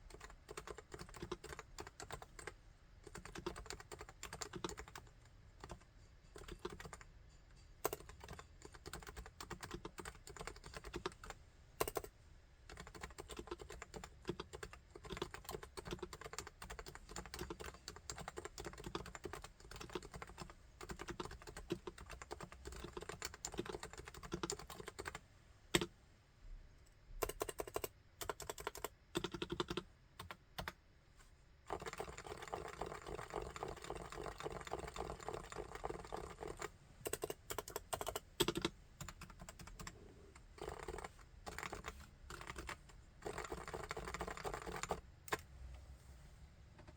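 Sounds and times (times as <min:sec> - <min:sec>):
keyboard typing: 0:00.1 - 0:07.0, 0:07.8 - 0:12.1, 0:12.7 - 0:25.9, 0:27.2 - 0:30.8, 0:31.7 - 0:45.5.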